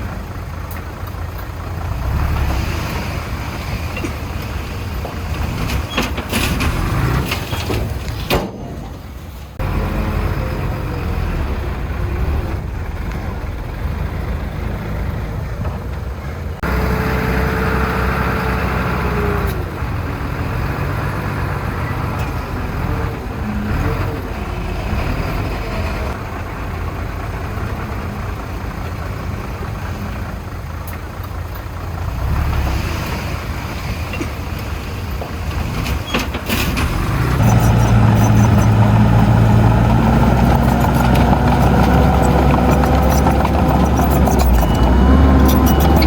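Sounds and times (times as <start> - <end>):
heavy diesel engine running: 0.0 - 46.0.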